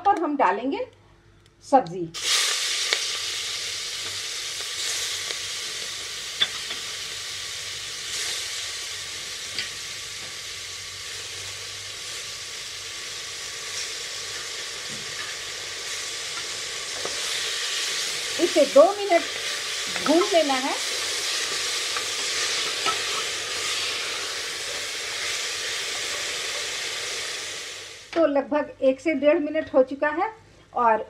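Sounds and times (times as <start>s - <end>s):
vegetables sizzling in hot fat: 2.2s - 28.2s.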